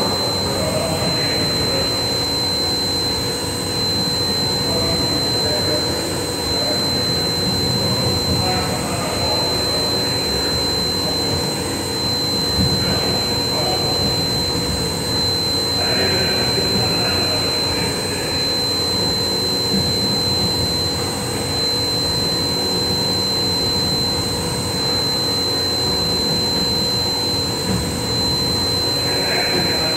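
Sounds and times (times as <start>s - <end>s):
machine high-pitched whine: 0.0s - 29.9s.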